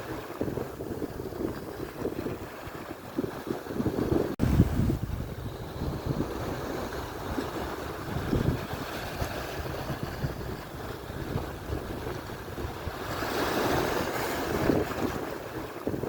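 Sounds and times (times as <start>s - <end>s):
surf washing ashore: 0.0s - 16.0s
wind buffeting microphone: 0.0s - 16.0s.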